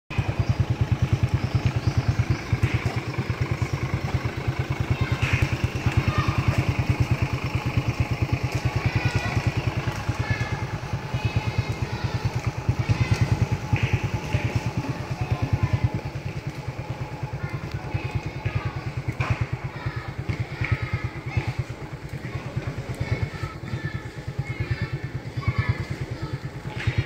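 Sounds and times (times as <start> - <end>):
motorcycle engine idling: 0.1 - 27.0.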